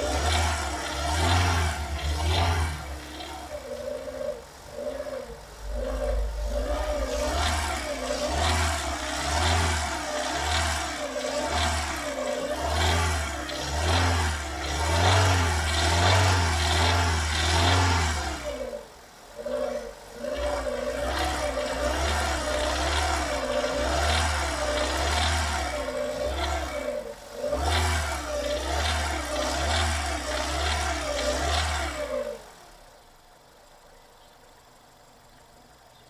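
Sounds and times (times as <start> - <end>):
car engine revving: 0.0 - 33.8
engine knocking rattle: 0.0 - 36.0.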